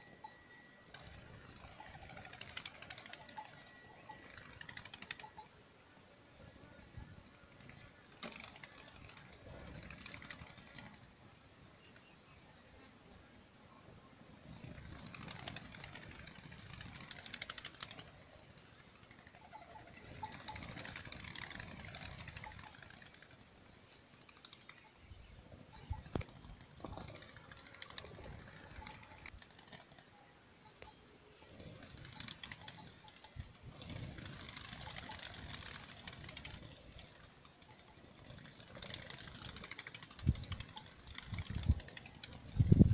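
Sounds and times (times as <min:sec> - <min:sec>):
dove wings flapping: 0:00.9 - 0:05.6, 0:07.2 - 0:12.2, 0:14.5 - 0:30.1, 0:31.4 - 0:42.9.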